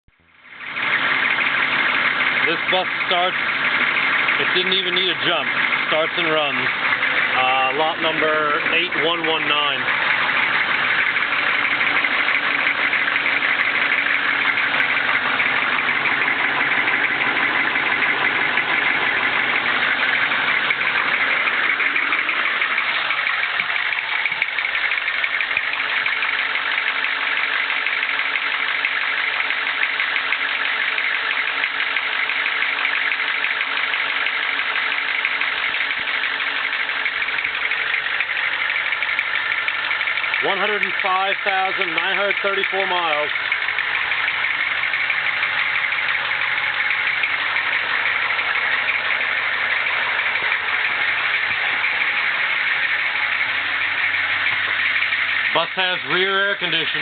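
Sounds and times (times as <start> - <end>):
diesel bus engine idling: 0.1 - 57.0.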